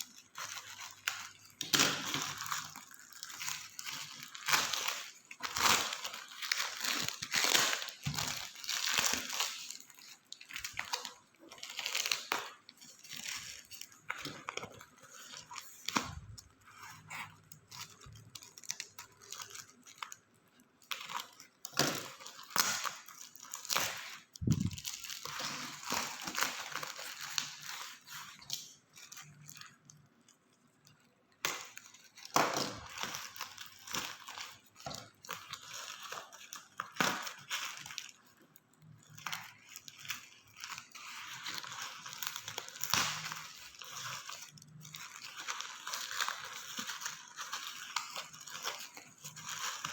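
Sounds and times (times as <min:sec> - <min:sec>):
packaging tearing and crinkling: 0:00.0 - 0:49.9.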